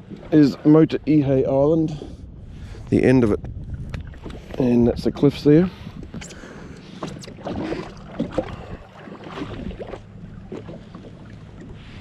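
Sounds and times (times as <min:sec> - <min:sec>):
jet ski low hum: 0:00.0 - 0:12.0
light wind: 0:00.0 - 0:12.0
water noise: 0:00.0 - 0:12.0.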